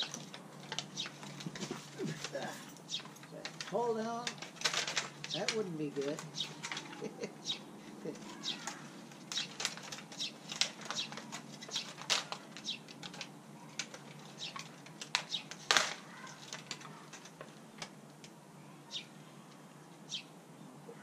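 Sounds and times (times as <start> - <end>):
plastic pot crackling: 0.0 - 7.3, 8.1 - 18.0.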